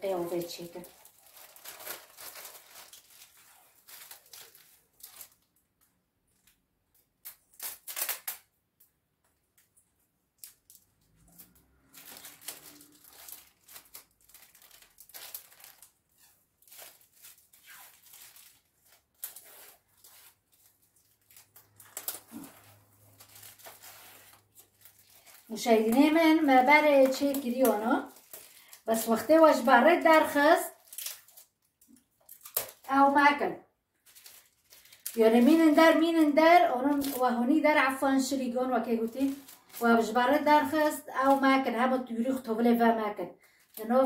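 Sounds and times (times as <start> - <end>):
plastic bag crinkling: 0.0 - 8.5, 10.3 - 41.9.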